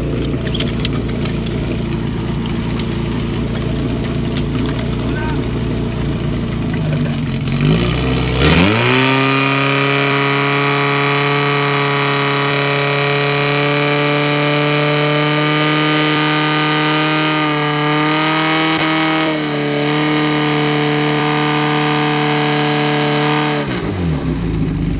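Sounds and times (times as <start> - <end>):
pump engine revving: 0.0 - 24.9.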